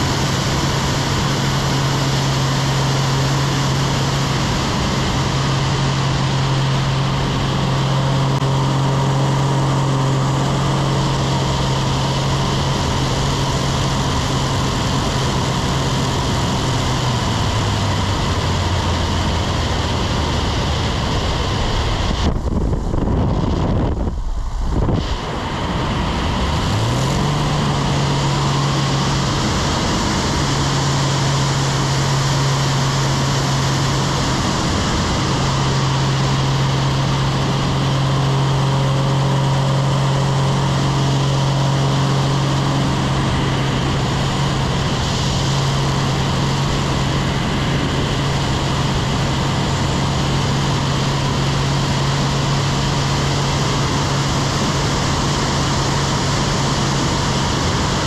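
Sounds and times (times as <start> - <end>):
propeller plane engine droning: 0.0 - 58.0
wind rush over microphone: 0.0 - 58.0.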